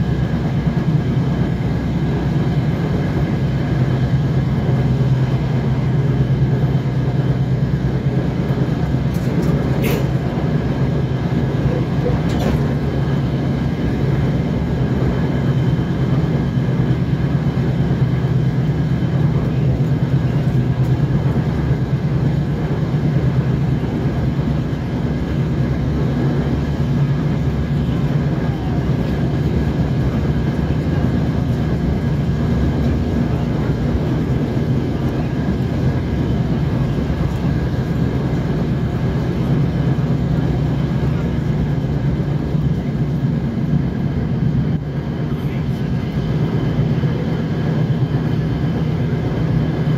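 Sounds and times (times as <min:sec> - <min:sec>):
diesel engine drone: 0:00.0 - 0:49.9
train wheels on rails: 0:00.0 - 0:49.9.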